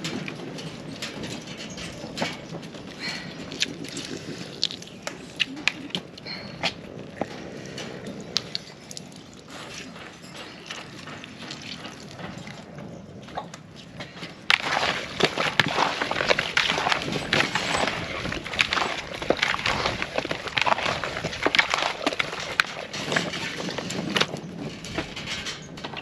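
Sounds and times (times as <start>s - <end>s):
dry wood snapping and crackling: 0.0s - 9.6s, 13.4s - 26.0s.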